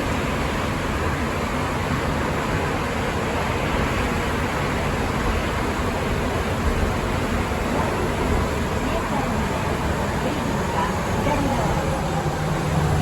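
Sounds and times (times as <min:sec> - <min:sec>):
subway car running noise: 0:00.0 - 0:13.0.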